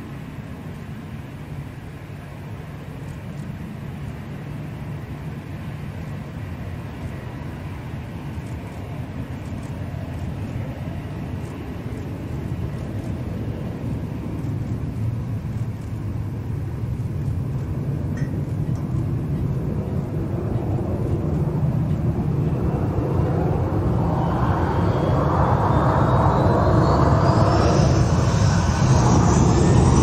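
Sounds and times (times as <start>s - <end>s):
jet engine whine: 0.0s - 30.0s
jet engines rumbling: 0.0s - 30.0s.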